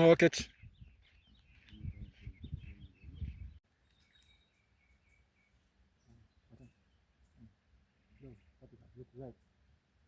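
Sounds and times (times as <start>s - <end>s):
faint bird chirps: 0.5s - 9.8s.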